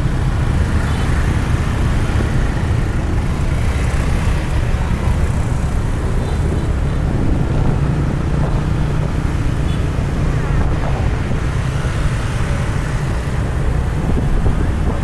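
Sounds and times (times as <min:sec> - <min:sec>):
vehicle engines rumbling: 0:00.0 - 0:15.0
wind buffeting microphone: 0:01.4 - 0:15.0.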